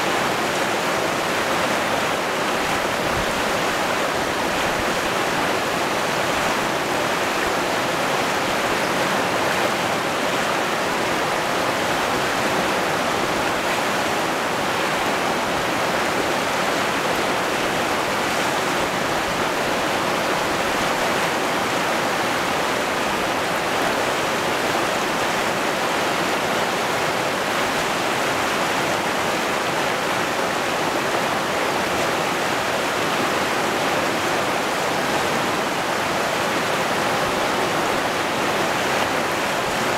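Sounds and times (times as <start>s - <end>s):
river rapids rushing over rocks: 0.0s - 39.9s.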